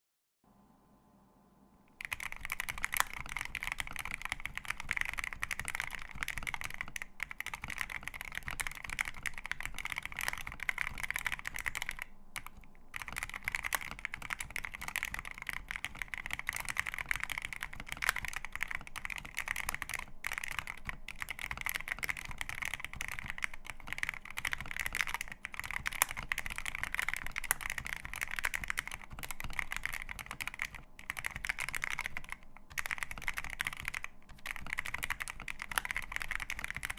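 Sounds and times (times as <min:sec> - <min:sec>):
fast mechanical keyboard typing: 0:02.0 - 0:36.9.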